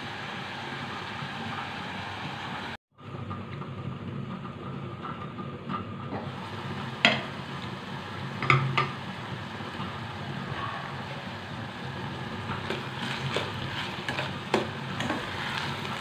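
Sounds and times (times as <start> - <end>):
onions sizzling in a pot: 0.0 - 16.0.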